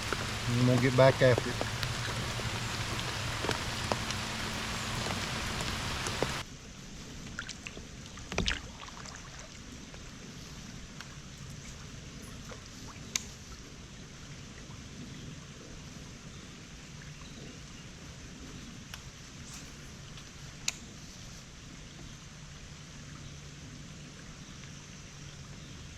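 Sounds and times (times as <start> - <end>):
rain falling on water: 0.0 - 25.9
water lapping around kayak: 0.0 - 25.9.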